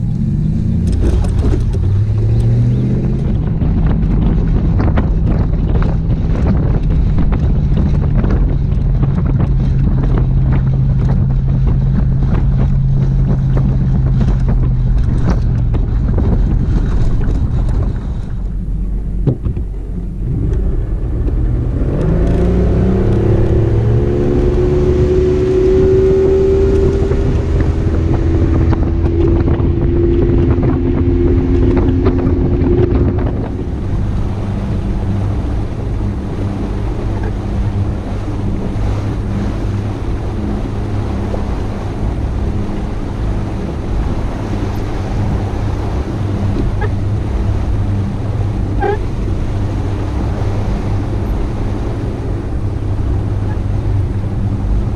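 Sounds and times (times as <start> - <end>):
boat motor running: 0.0 - 54.9
towed boat trailer rumble: 0.0 - 54.9.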